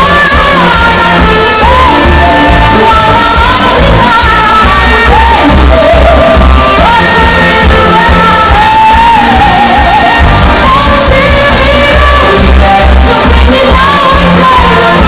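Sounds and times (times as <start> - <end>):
live band music over a pa: 0.0 - 15.0
pulsing bass line: 0.0 - 15.0.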